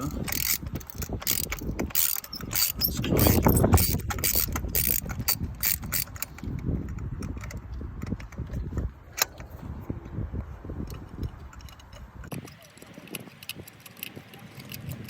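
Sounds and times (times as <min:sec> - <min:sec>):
socket ratchet clicking: 0:00.0 - 0:09.5, 0:10.8 - 0:15.0.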